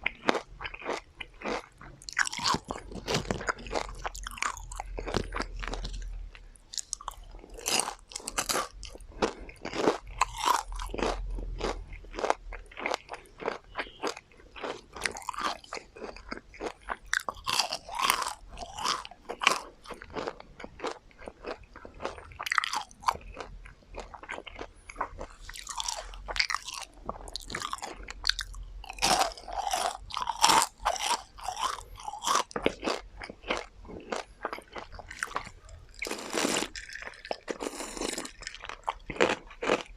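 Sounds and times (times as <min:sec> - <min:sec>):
crunching and chewing crispy food: 0:00.0 - 0:39.9.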